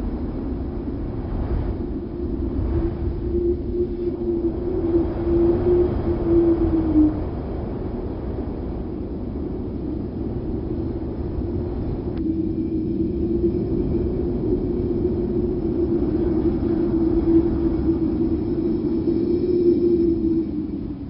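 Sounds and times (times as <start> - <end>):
wind rushing: 0.0 - 21.0.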